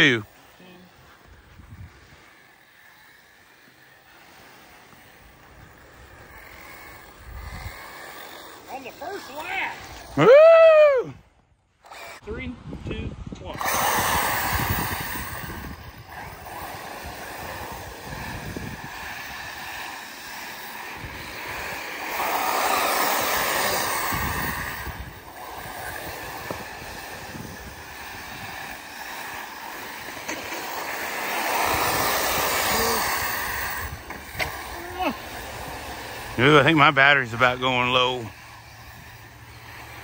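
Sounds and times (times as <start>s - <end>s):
rc cars racing on dirt: 0.0s - 40.0s.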